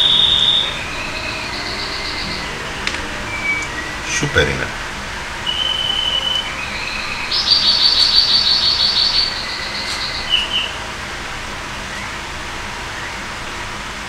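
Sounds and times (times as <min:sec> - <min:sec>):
bird singing: 0:00.0 - 0:13.6.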